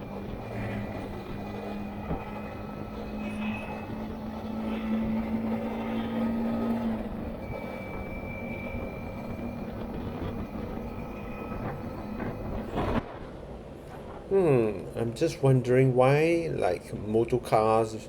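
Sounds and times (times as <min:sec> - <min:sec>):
road noise rush: 0:00.0 - 0:18.0.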